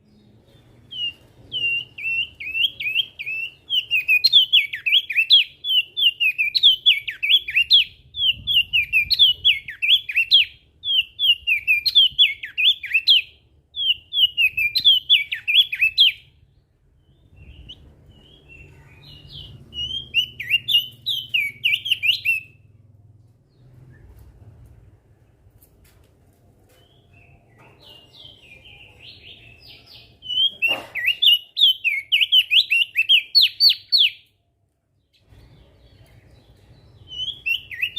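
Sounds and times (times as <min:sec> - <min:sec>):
bird twittering song: 0:00.0 - 0:22.8, 0:26.7 - 0:34.4, 0:35.0 - 0:37.9.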